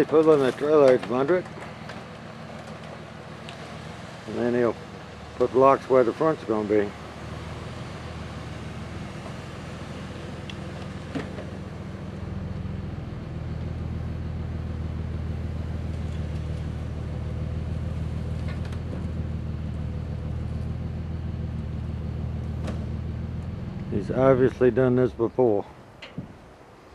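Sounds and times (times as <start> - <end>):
truck engine running: 0.0 - 25.9.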